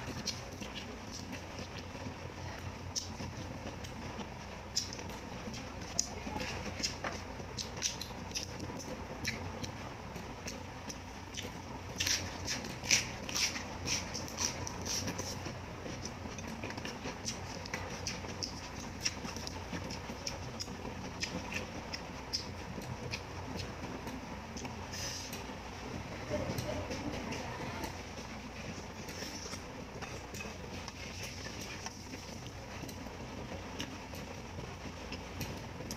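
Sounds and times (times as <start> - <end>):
person chewing with mouth clicks: 0.0 - 1.9, 2.5 - 25.6, 28.6 - 33.0, 33.7 - 34.4.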